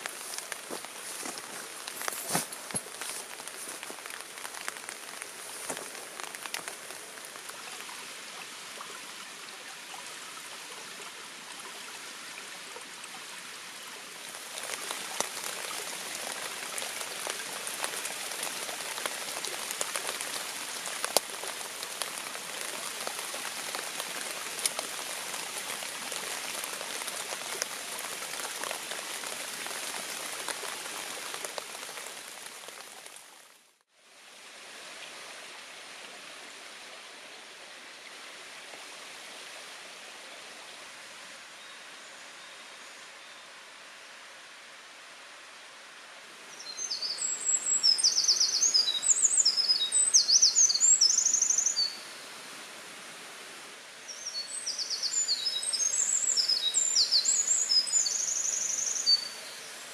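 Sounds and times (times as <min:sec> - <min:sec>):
rain falling: 0:00.0 - 0:42.3, 0:43.5 - 0:59.9
stream rushing: 0:00.0 - 0:59.9.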